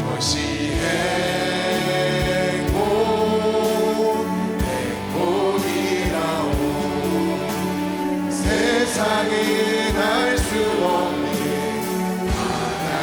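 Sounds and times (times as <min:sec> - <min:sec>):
group singing a praise song: 0:00.0 - 0:13.0
instrumental accompaniment: 0:00.0 - 0:13.0.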